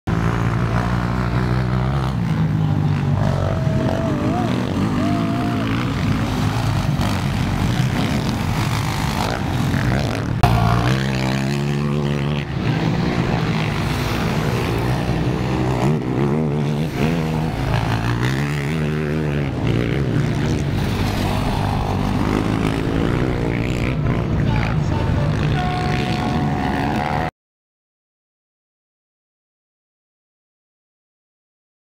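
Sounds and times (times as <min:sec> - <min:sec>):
quad engines revving: 0:00.1 - 0:27.3.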